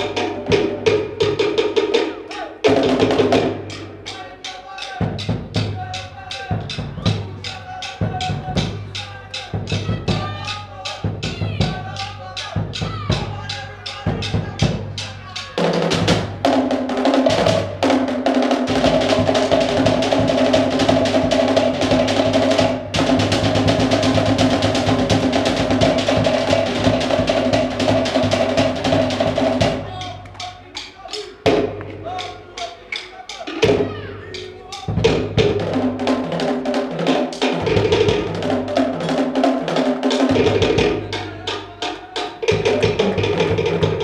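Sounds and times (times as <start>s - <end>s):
drum ensemble playing: 0.0s - 44.0s.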